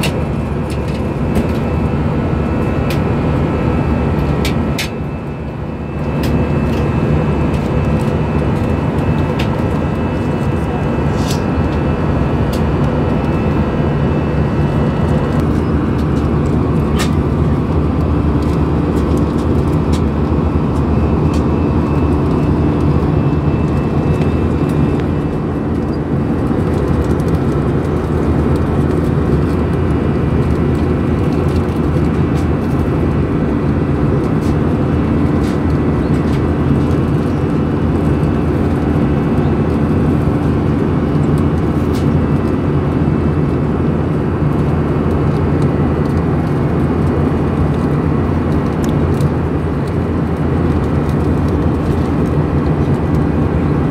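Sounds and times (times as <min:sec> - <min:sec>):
jet engine drone in cabin: 0:00.0 - 0:53.9.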